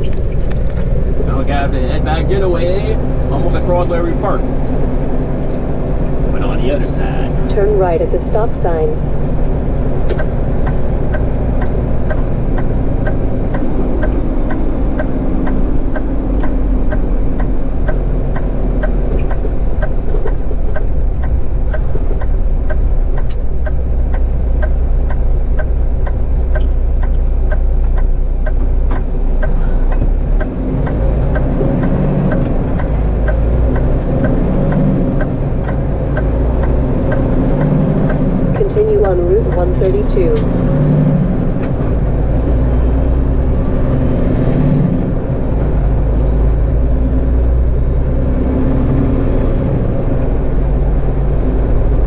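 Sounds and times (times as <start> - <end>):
truck diesel engine running: 0.0 - 52.0
turn signal ticking: 0.0 - 52.0.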